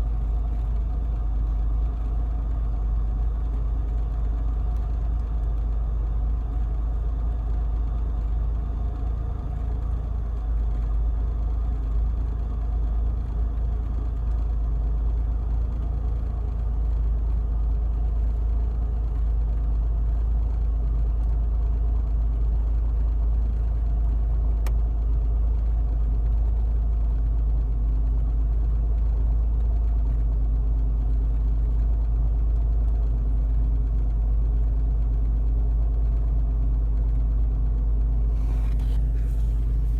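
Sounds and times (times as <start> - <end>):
car engine running: 0.0 - 39.9
engine knocking noise: 0.0 - 39.9.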